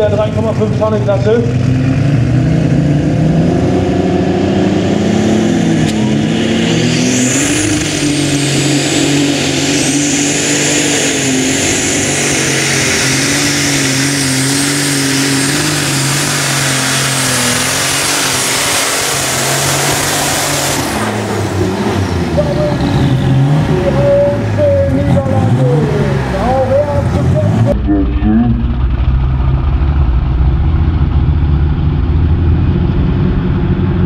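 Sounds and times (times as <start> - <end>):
high engine whine: 0.0 - 34.0
tractor engine running loud: 0.0 - 34.0.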